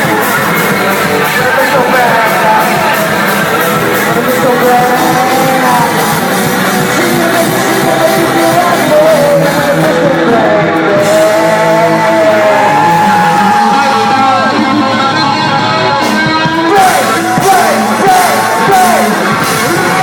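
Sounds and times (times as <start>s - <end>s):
lead guitar bending notes: 0.0s - 20.0s
live rock band playing: 0.0s - 20.0s.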